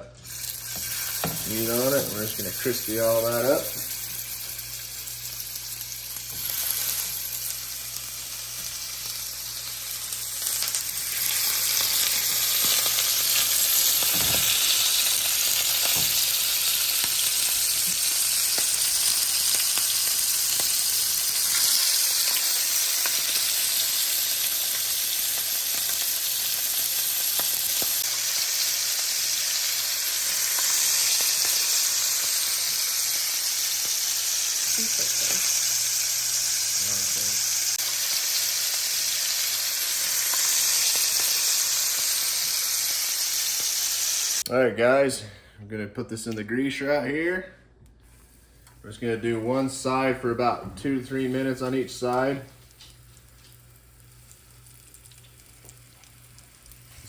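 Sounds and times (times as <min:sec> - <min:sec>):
meat sizzling in a pan: 0:00.3 - 0:44.5, 0:51.7 - 0:57.0.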